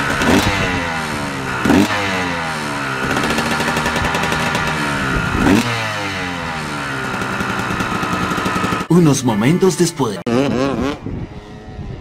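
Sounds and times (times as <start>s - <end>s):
two-stroke motorbike revving: 0.0s - 9.0s, 10.0s - 12.0s.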